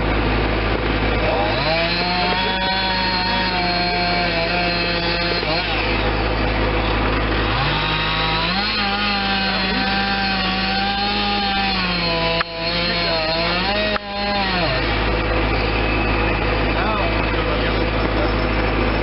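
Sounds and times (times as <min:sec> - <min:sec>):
chainsaw cutting wood: 0:00.0 - 0:16.7.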